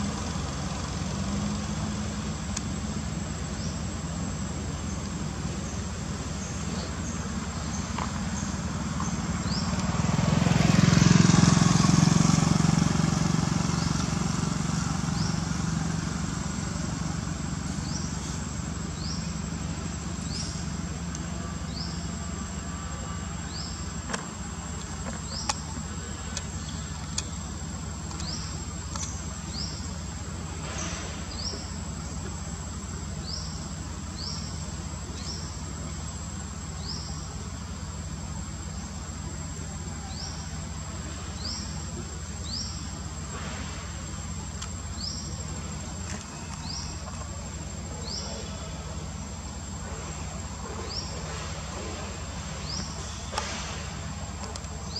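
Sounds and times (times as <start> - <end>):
high-pitched insect whine: 1.4 - 54.9.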